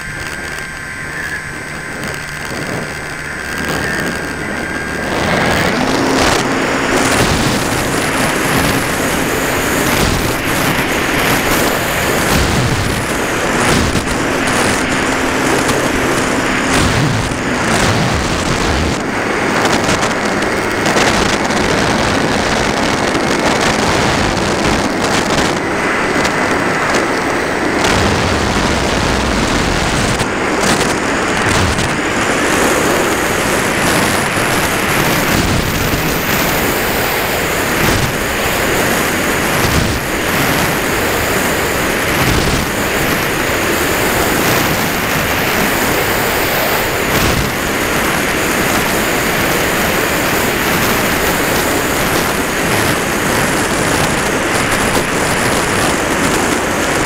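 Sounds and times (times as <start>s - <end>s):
rush of air and buffeting: 0.0s - 57.0s.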